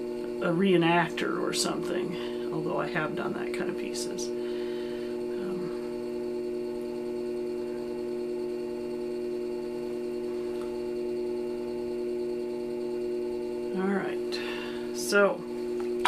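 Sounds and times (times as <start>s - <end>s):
pottery wheel motor humming: 0.0s - 16.0s.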